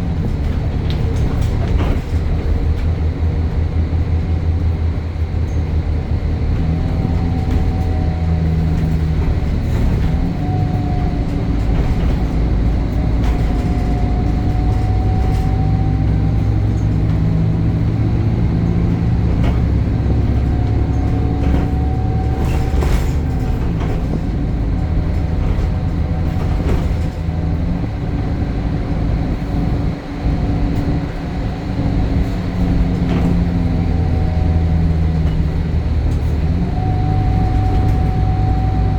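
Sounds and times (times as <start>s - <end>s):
bus engine driving: 0.0s - 38.9s
clunks and rattles from bus body: 0.0s - 38.9s
gearbox whine: 0.0s - 38.9s.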